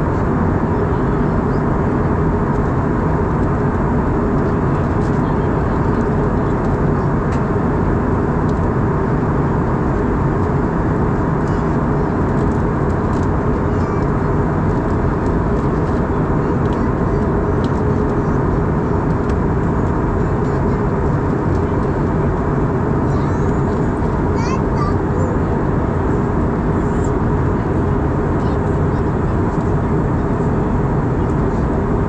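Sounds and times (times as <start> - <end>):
aircraft cabin engine rush: 0.0 - 32.0
faint constant hum: 0.0 - 32.0.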